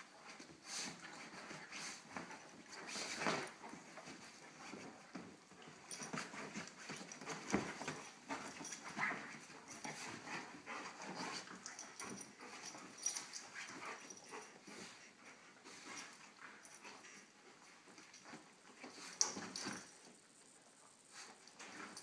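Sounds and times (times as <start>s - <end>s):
dogs snuffling: 0.2s - 20.2s.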